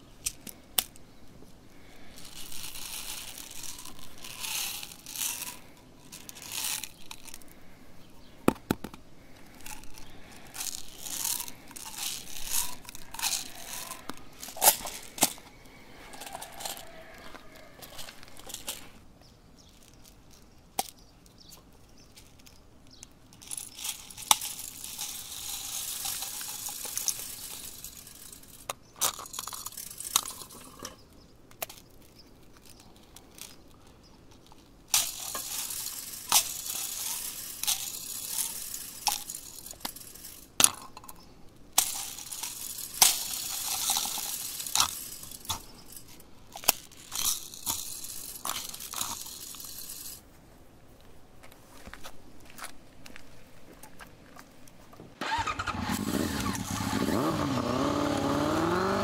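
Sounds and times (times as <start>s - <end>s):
plastic beads rattling into metal: 0.0s - 1.0s, 1.7s - 19.0s, 19.6s - 50.3s, 55.2s - 59.0s
plastic capsules clicking: 0.2s - 1.1s, 1.7s - 18.9s, 19.6s - 50.2s.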